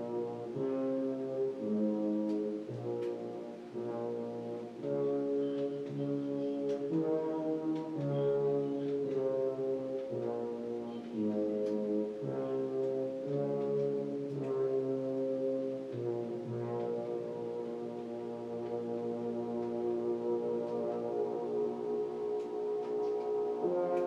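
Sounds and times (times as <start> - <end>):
slow low chords background music: 0.0 - 24.0.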